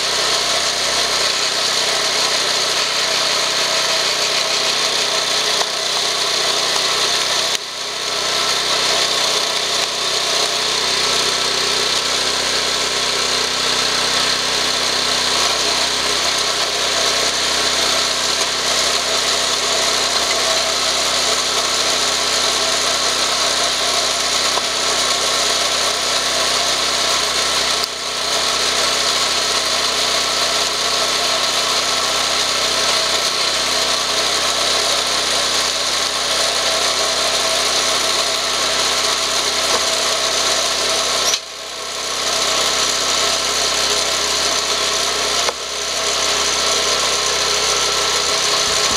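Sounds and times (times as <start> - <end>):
log splitter engine running: 0.0 - 48.9.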